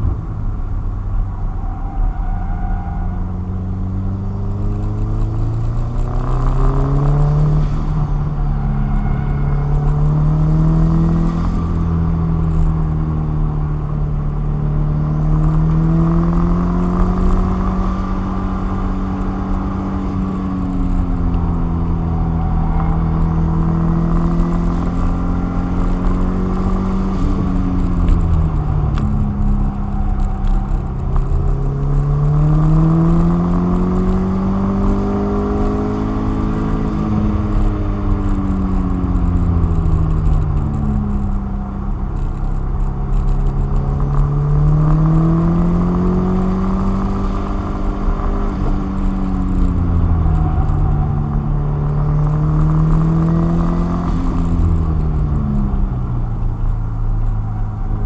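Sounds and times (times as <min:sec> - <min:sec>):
car engine revving: 0:00.0 - 0:58.0
low road rumble: 0:00.0 - 0:58.0.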